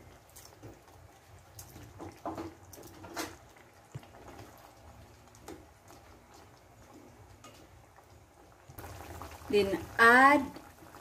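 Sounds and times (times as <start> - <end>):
pot simmering with bubbling: 0.0 - 11.0.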